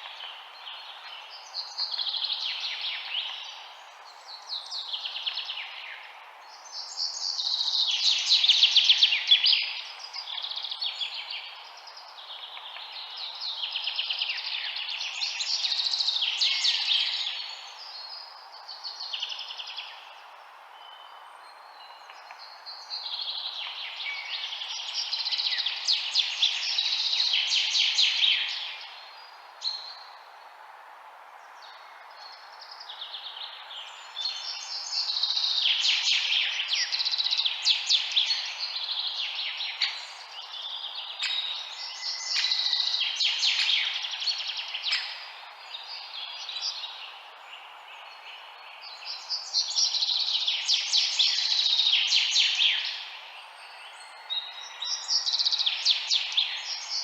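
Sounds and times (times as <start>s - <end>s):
small birds chirping: 0.0s - 30.3s, 31.4s - 57.0s
steady background hiss: 0.0s - 57.0s.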